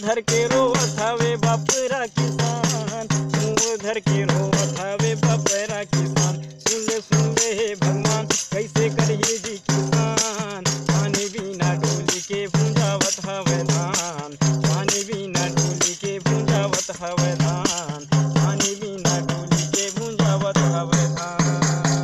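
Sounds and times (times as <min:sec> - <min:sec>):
tambourine struck and shaken: 0:00.0 - 0:22.0.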